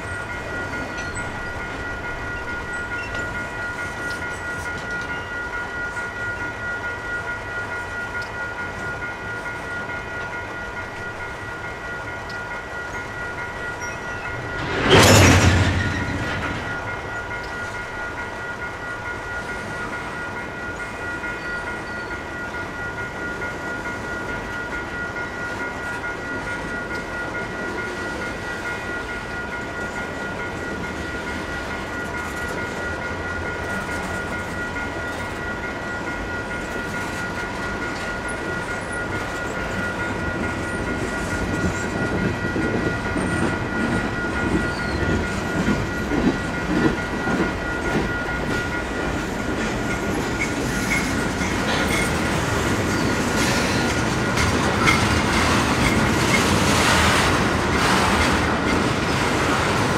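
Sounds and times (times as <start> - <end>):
level crossing warning bell: 0.0 - 59.9
train wheels clattering on rails: 0.0 - 59.9.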